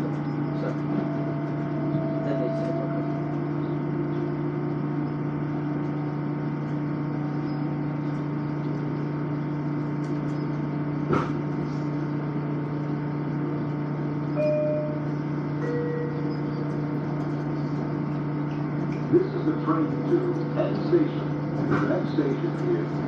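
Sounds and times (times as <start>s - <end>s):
train car hum: 0.0s - 23.0s.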